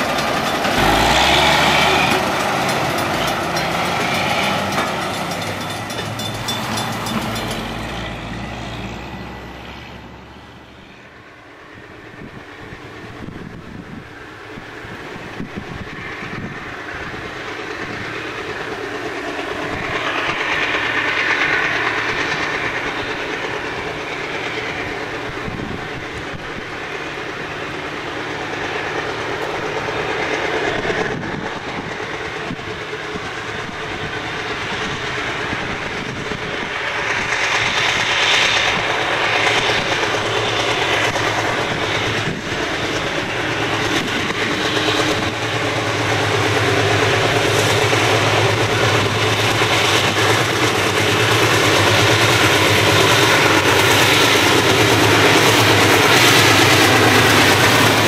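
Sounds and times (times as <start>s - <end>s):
diesel locomotive engine drone: 0.0s - 58.0s
wheel and rail noise: 0.0s - 58.0s.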